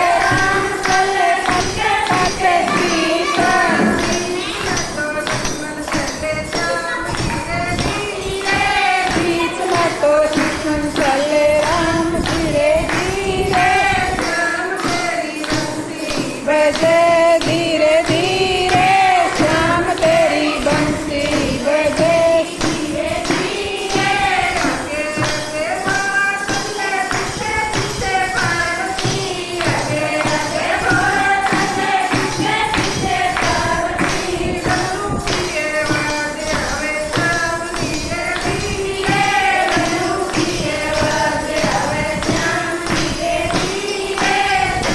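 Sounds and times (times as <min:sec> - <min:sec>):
devotional singing: 0:00.0 - 0:44.9
hand percussion beat: 0:00.0 - 0:44.9.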